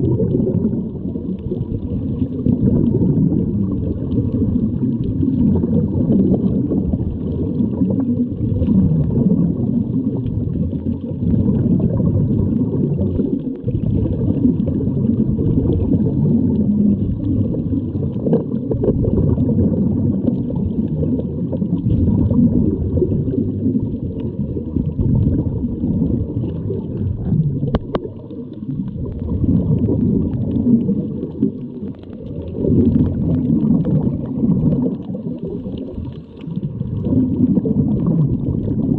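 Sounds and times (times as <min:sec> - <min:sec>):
underwater regulator bubbling: 0:00.0 - 0:38.9.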